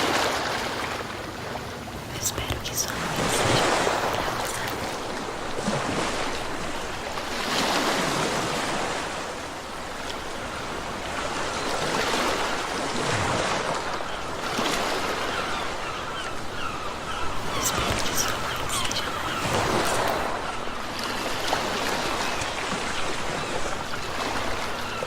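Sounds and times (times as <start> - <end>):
ocean waves washing onto shore: 0.0 - 25.0.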